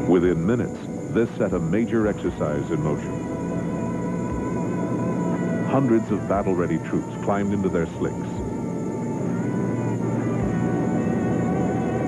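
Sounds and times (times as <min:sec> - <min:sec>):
documentary background music: 0:00.0 - 0:12.0
helicopters in flight: 0:00.0 - 0:12.0.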